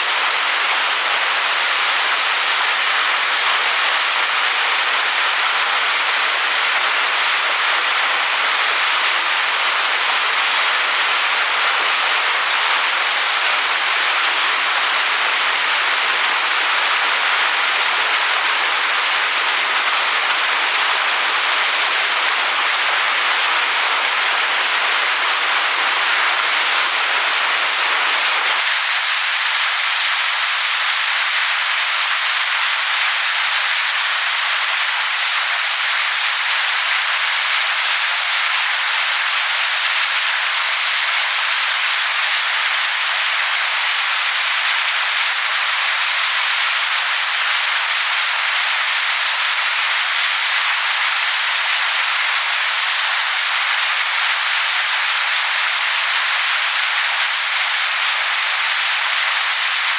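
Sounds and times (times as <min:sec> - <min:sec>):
waterfall splashing onto rocks: 0:00.0 - 0:59.9.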